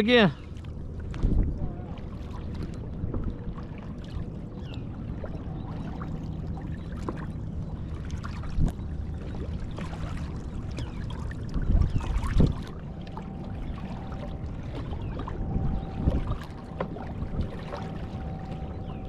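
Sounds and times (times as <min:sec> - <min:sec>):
water lapping around kayak hull: 0:00.0 - 0:19.0.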